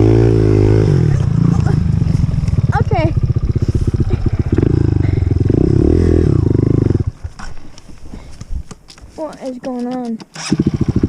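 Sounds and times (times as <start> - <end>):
dirt bike engine running: 0.0 - 7.7, 9.3 - 11.0.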